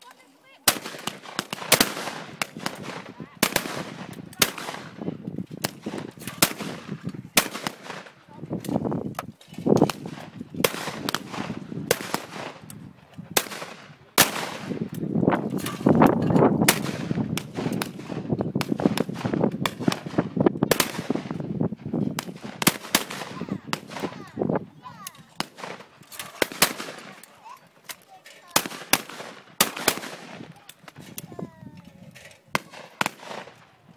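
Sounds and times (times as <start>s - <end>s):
shotguns firing: 0.6s - 8.9s, 9.5s - 24.4s, 25.1s - 31.2s, 32.5s - 33.7s.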